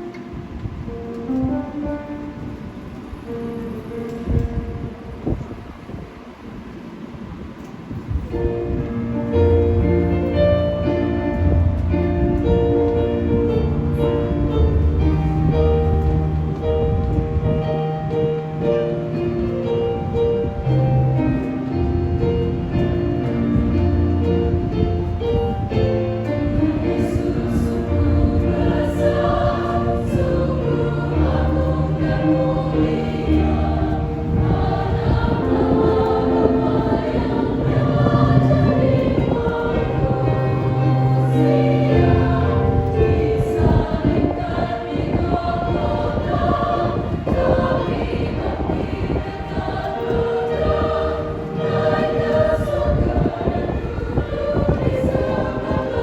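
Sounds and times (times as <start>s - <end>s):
choir singing a hymn: 0.0s - 6.5s, 8.1s - 56.0s.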